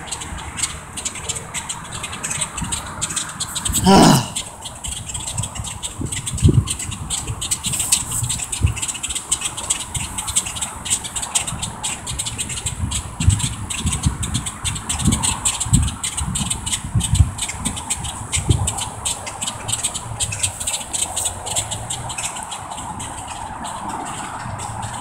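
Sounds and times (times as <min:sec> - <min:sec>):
birds clicking and chattering: 0:00.0 - 0:25.0
wind buffeting microphone: 0:04.8 - 0:25.0.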